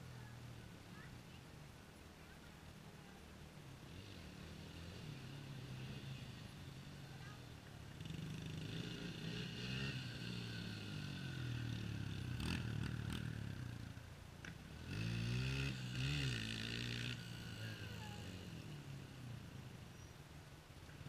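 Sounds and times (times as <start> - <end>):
dirt bike engines revving: 2.2 - 21.0.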